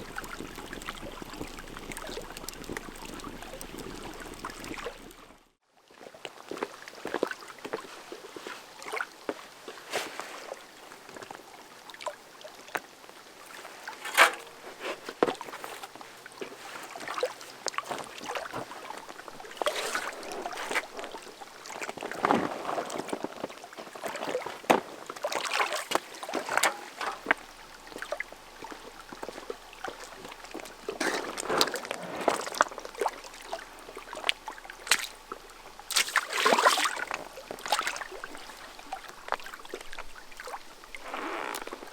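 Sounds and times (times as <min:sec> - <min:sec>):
paddle splashing water: 0:00.0 - 0:05.4, 0:13.4 - 0:41.9
water trickling and gurgling: 0:00.0 - 0:41.9.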